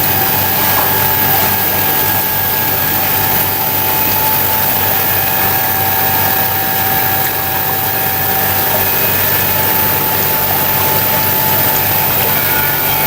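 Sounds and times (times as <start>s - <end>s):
machine hum: 0.0s - 13.0s
steady whine: 0.0s - 13.0s
water bubbling: 0.0s - 13.0s.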